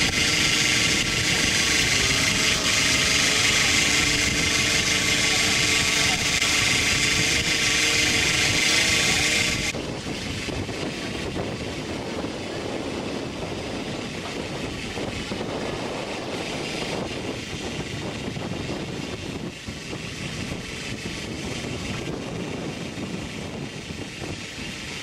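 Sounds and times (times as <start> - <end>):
boat engine noise: 0.0 - 25.0
water: 0.0 - 25.0
wind: 0.0 - 25.0.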